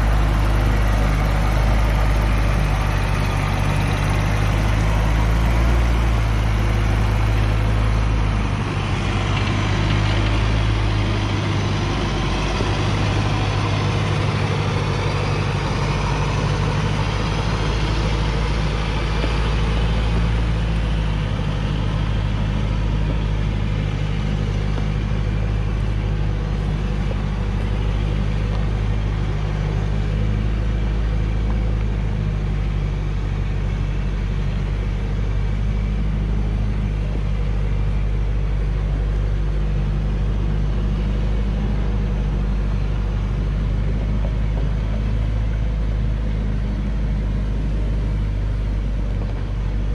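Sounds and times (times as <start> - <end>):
truck diesel engine at low revs: 0.0 - 49.9.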